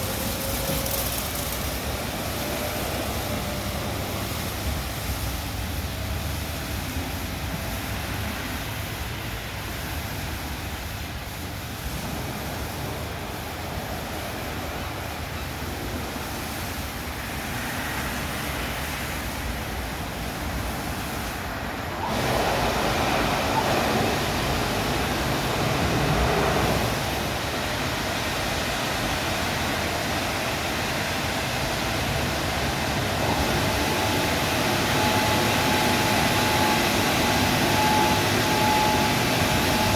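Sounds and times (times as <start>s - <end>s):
car wash machinery and water: 0.0s - 39.9s.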